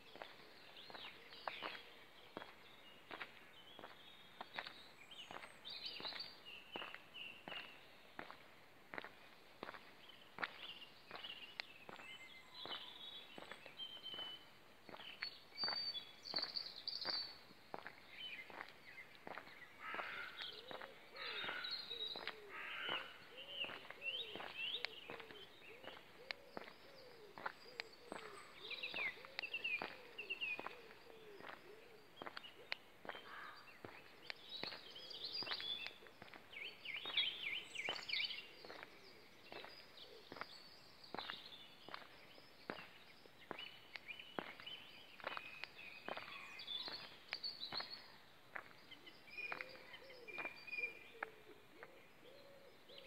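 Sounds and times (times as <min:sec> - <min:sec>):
footsteps on paved path: 0:00.0 - 0:52.2
songbirds singing and chirping: 0:00.0 - 0:53.0.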